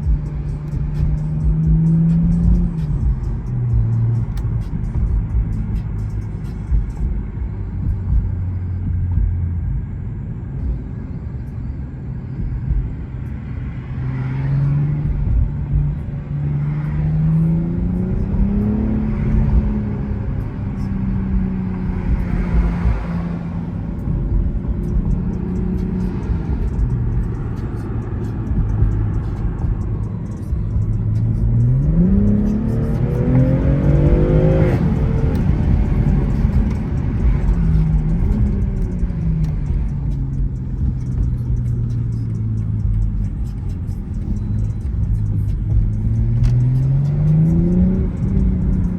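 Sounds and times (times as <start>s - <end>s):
car engine accelerating through gears: 0.0s - 48.9s.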